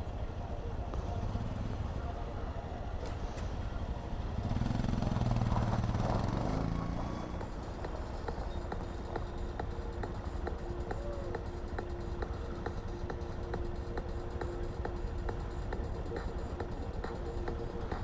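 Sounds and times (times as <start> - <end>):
motorcycle engine running: 1.1 - 18.0.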